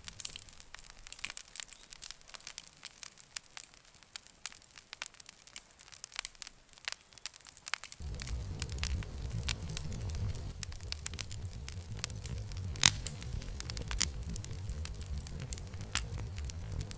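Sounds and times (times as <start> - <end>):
campfire crackling and popping: 0.0 - 16.9.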